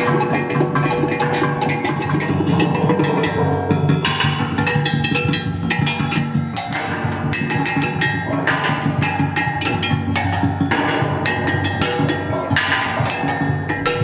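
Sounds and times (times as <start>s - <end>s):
mallets striking ringing metal: 0.0s - 14.0s.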